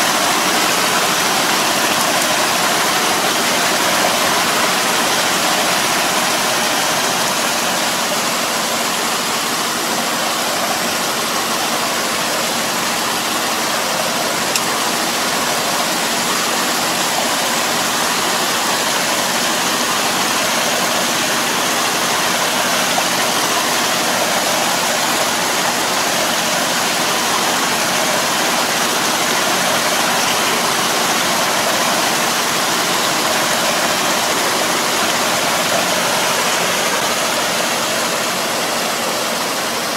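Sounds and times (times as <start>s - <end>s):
churned water and mud rushing: 0.0s - 39.9s
tractor engine running: 0.0s - 39.9s.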